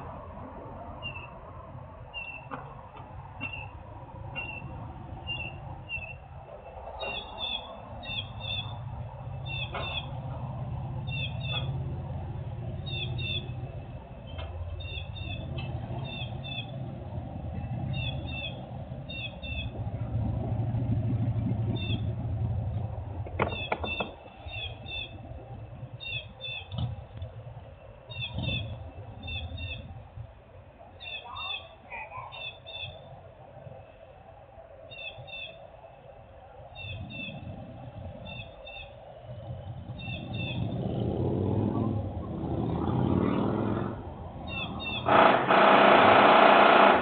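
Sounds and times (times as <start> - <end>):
heavy machinery rumble: 1.8 - 30.8, 37.0 - 47.0.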